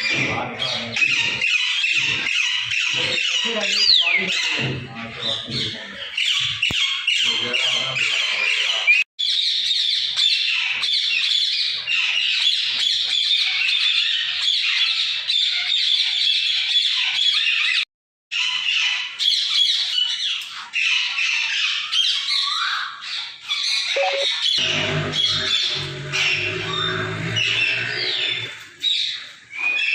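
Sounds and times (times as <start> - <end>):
parrots squawking and chattering: 0.0 - 29.9.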